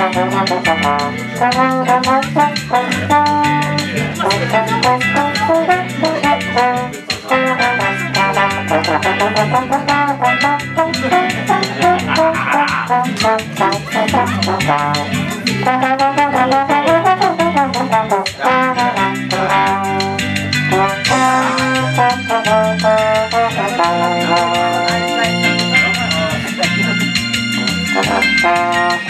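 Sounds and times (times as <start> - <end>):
bass line: 0.0 - 29.0
drum beat: 0.0 - 29.0
trombone solo melody: 0.0 - 29.0.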